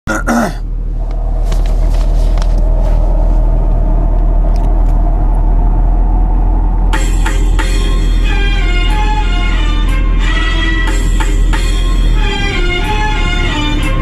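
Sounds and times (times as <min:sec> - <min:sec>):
road noise: 0:00.1 - 0:14.0
vehicle engine rumble: 0:00.1 - 0:14.0.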